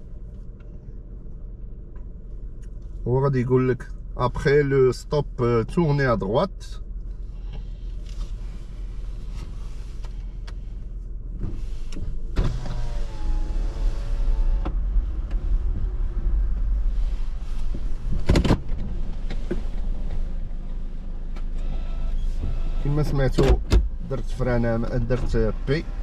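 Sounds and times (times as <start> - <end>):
car low hum: 0.0 - 26.0.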